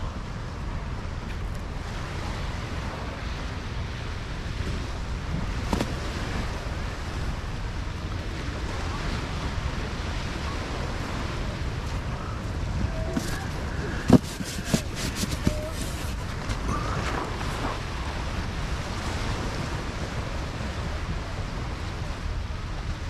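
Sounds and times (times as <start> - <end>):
surf washing: 0.0 - 23.0
wind on microphone: 0.0 - 23.0.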